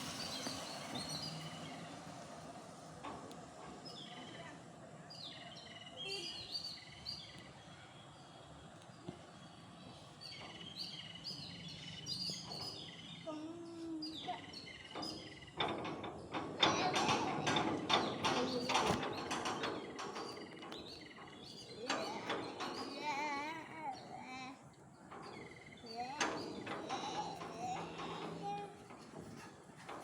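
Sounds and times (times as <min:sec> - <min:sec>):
small birds chirping: 0:00.0 - 0:02.8, 0:03.4 - 0:30.0.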